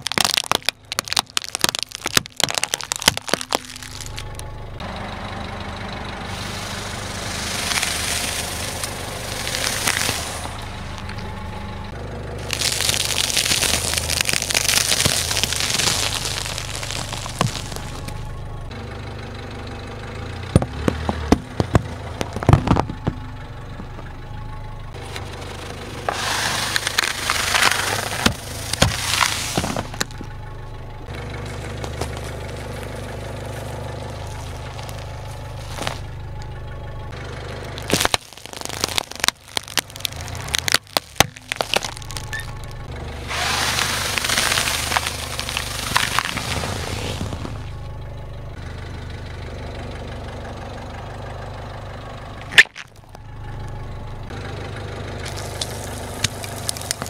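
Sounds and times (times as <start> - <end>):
car tyre crushing brittle objects: 0.0 - 18.7, 20.2 - 48.6, 51.1 - 57.0
car engine humming: 0.0 - 57.0.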